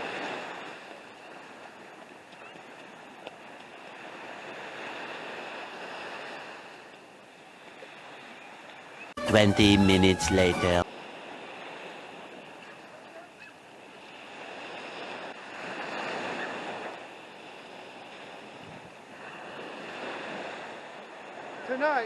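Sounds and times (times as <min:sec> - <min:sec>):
waves breaking on beach: 0:00.0 - 0:09.0, 0:10.9 - 0:22.0.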